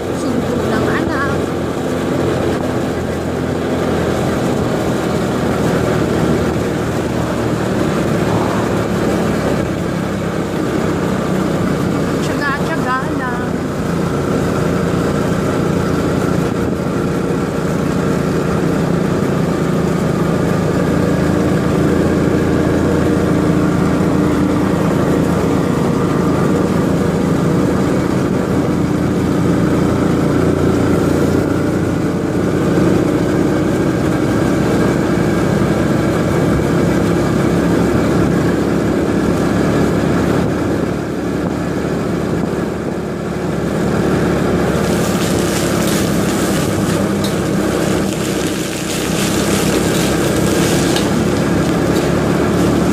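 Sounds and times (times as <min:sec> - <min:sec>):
motor scooter engine running: 0:00.0 - 0:52.9.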